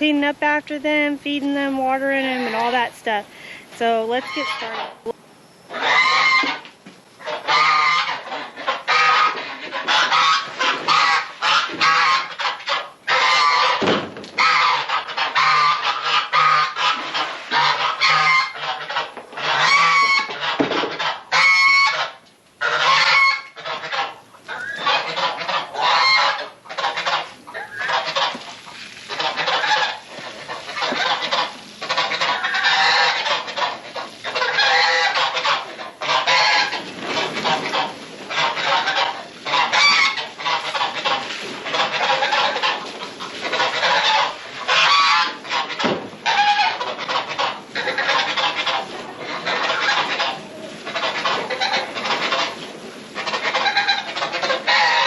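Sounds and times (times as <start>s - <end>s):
geese honking: 0.9s - 55.0s
poultry calling: 2.2s - 55.0s.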